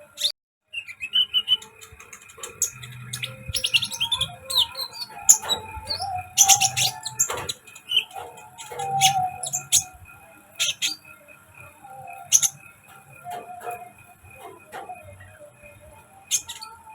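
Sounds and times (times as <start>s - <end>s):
small songbirds chirping: 0.0s - 16.9s.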